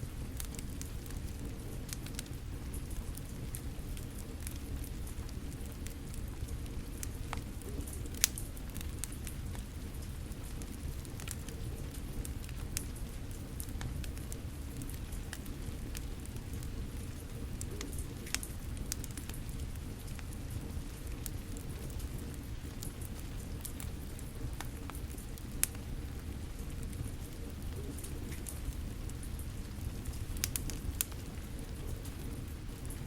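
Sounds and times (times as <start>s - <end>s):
fire crackling and popping: 0.0s - 33.0s
steady rain: 0.0s - 33.0s.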